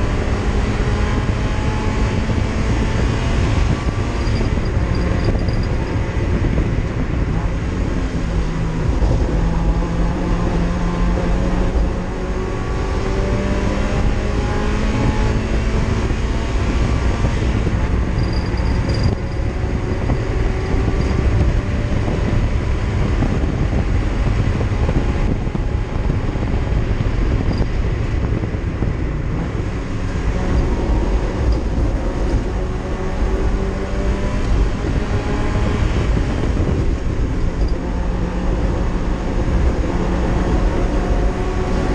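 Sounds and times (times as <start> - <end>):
race car engine running hard: 0.0 - 41.9
road and drivetrain rumble: 0.0 - 41.9.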